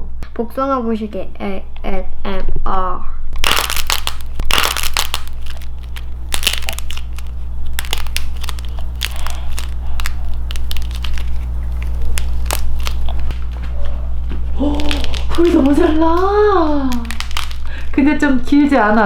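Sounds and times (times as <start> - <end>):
dried clay crackling and crunching: 3.4 - 19.0.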